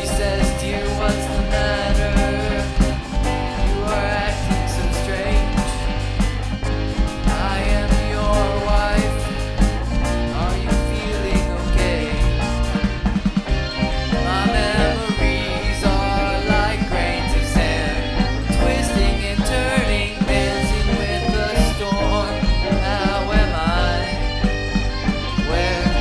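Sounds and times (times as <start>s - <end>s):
electric guitar bending notes: 0.0s - 26.0s
steady beat and bass: 0.0s - 26.0s.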